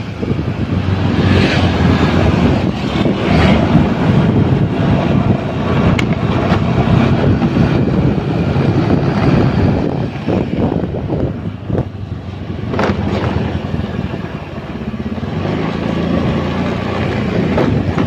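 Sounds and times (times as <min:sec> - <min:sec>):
vehicle engine and road rumble: 0:00.0 - 0:18.0
wind buffeting microphone: 0:00.0 - 0:18.0.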